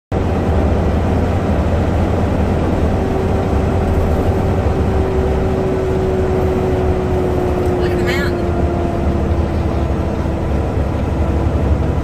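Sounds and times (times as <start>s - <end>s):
diesel truck engine rumbling: 0.1s - 12.0s
constant hum: 0.2s - 12.0s.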